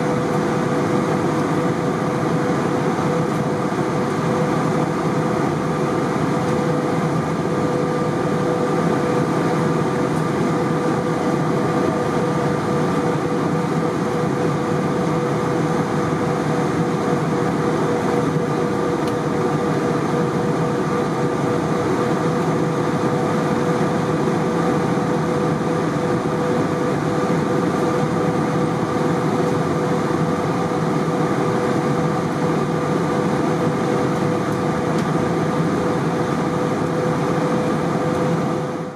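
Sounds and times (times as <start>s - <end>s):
airplane cabin engine rush: 0.0s - 38.9s.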